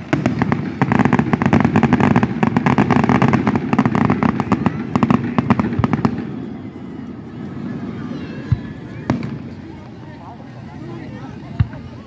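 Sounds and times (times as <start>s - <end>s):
fireworks crackling pops: 0.0s - 10.0s, 11.3s - 12.0s.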